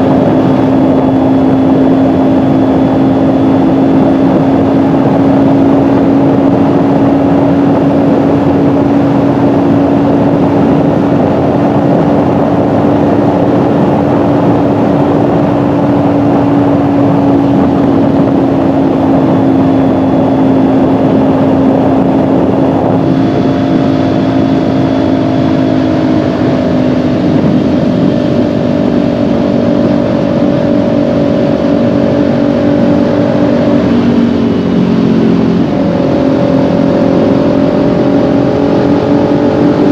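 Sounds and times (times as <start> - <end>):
motorcycle engine cruising: 0.0 - 39.9
road noise: 0.0 - 39.9
wind rush: 0.0 - 39.9.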